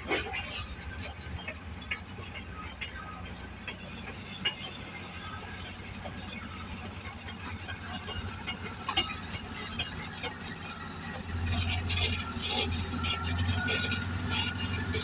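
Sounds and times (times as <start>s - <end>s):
bulldozer engine droning: 0.0s - 15.0s.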